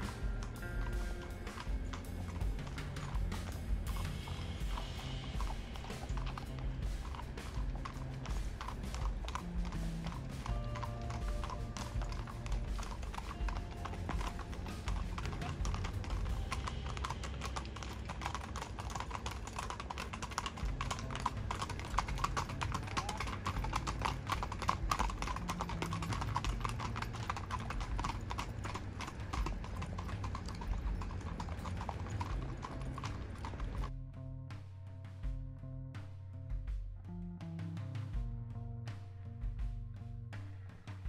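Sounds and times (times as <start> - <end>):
horse hooves clip-clopping on dirt: 0.0 - 34.0.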